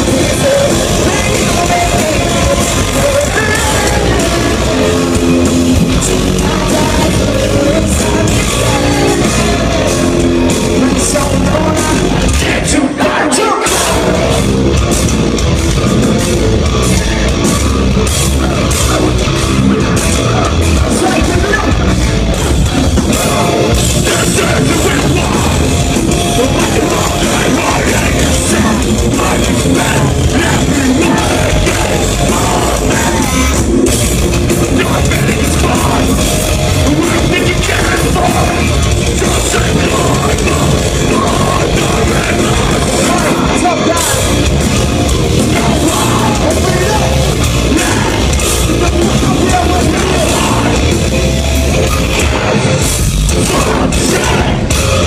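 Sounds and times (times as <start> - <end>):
loud metal band playing: 0.0 - 55.0
singing and yelled vocals: 0.0 - 55.0.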